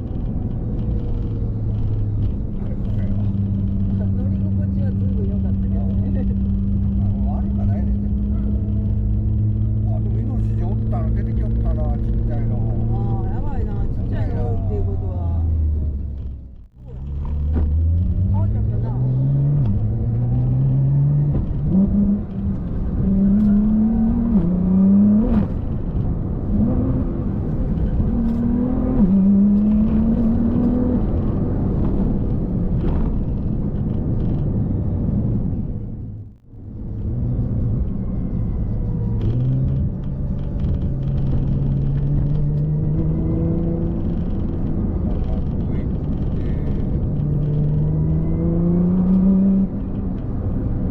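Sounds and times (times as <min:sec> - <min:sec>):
car engine shifting gears: 0:00.0 - 0:50.9.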